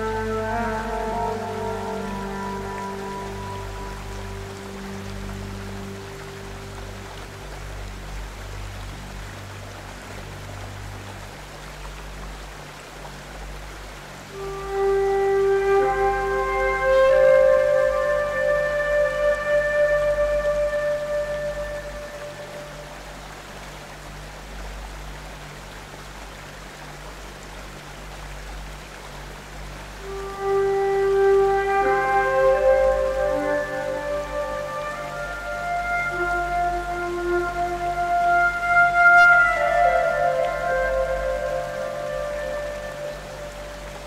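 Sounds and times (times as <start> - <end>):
river water rushing: 0.0 - 44.0
soft background music: 0.0 - 44.0.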